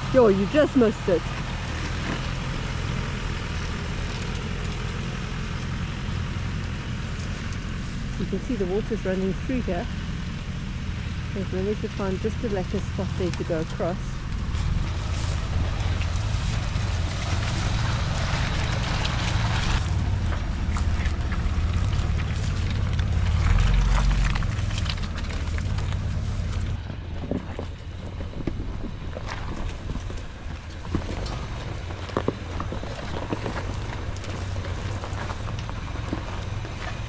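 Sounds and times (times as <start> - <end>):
vehicle engine rumble: 0.0 - 37.0.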